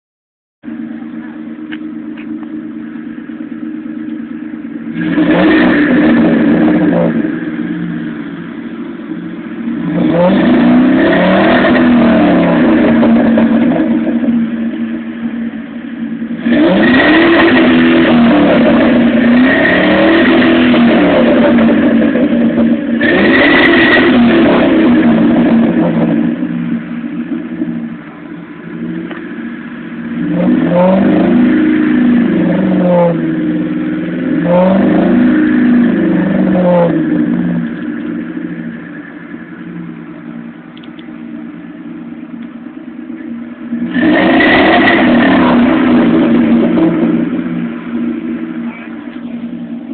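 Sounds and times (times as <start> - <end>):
car exhaust idling and revving: 0.6 - 49.9.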